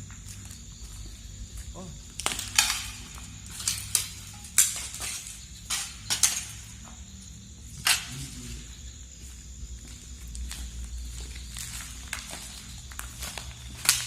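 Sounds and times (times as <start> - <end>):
footsteps crunching over debris: 0.0 - 14.0.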